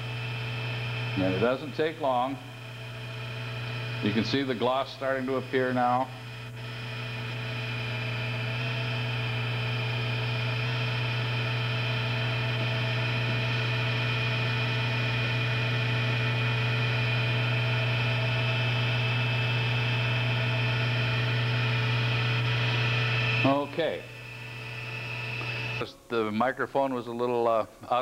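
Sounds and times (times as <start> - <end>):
wood lathe motor hum and whine: 0.0 - 25.9.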